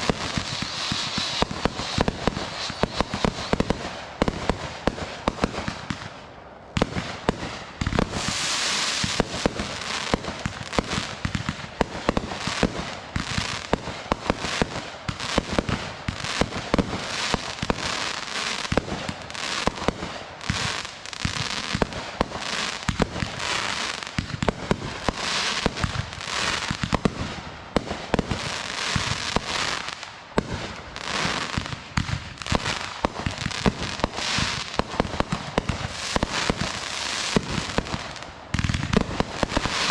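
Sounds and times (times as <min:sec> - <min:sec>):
fireworks bangs: 0:00.0 - 0:39.9
fireworks crackling and popping: 0:00.0 - 0:39.9.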